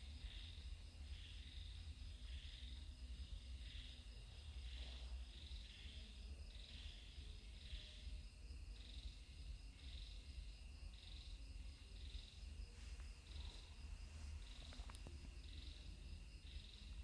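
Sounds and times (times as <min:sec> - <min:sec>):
faint low rumble: 0:00.0 - 0:17.0
insects trilling: 0:00.0 - 0:17.0.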